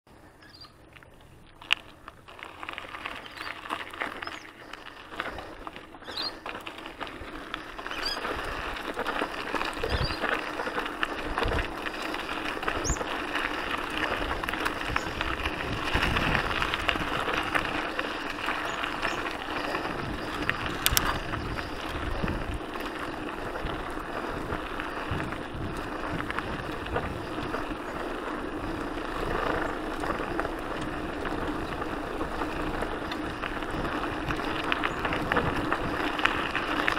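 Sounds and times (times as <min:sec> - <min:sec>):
bike tyres rolling on gravel: 0:00.1 - 0:36.9.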